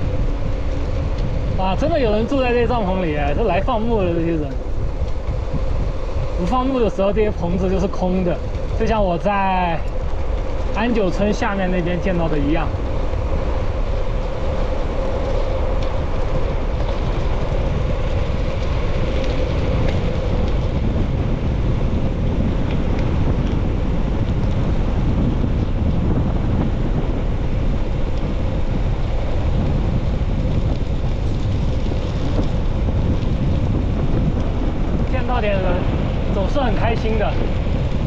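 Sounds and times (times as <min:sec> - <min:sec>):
low rumble of riding: 0:00.0 - 0:38.0
wind rushing over microphone: 0:00.0 - 0:38.0.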